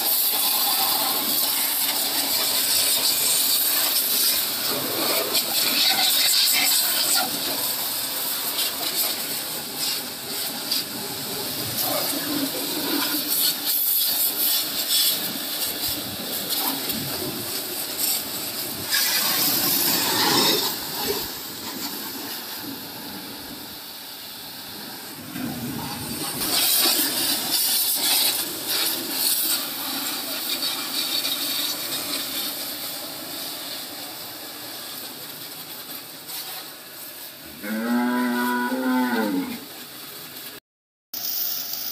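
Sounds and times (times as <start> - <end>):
pressure washer spraying metal: 0.0 - 37.5, 41.2 - 41.9.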